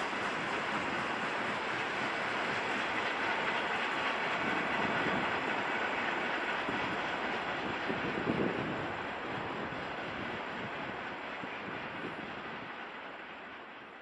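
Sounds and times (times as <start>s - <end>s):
train knocks: 0.0s - 13.7s
freight train wheels on rails: 0.0s - 14.0s.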